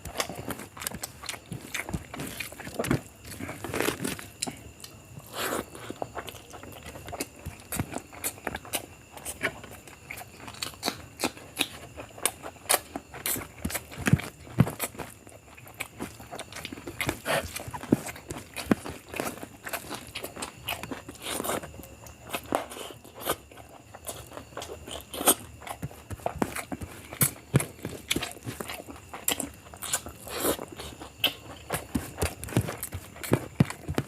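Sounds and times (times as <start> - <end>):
crunches while eating: 0.0 - 34.0
wet chewing and lip smacking: 0.1 - 34.0.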